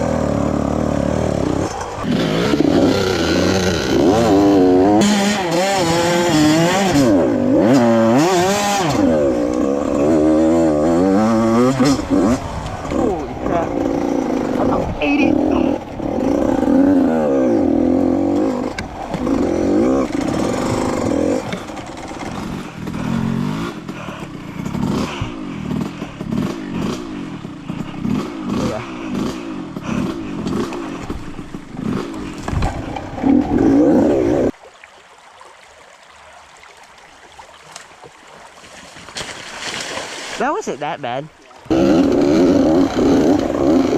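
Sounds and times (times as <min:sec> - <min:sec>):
dirt bike engine revving: 0:00.0 - 0:34.5, 0:41.6 - 0:43.9.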